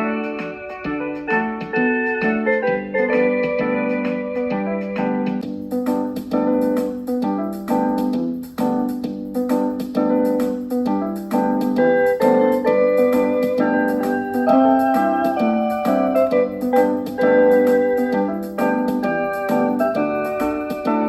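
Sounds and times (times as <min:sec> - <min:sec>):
piano music from a record player: 0:00.0 - 0:21.0.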